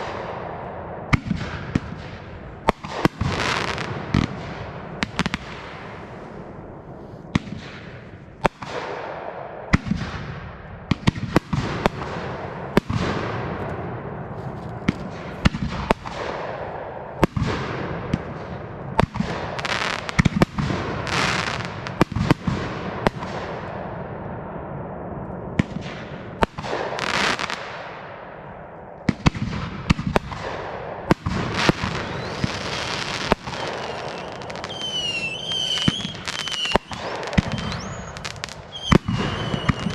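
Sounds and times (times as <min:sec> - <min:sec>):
fireworks crackling: 0:00.0 - 0:09.1, 0:11.0 - 0:23.8, 0:25.6 - 0:28.0, 0:29.0 - 0:39.9.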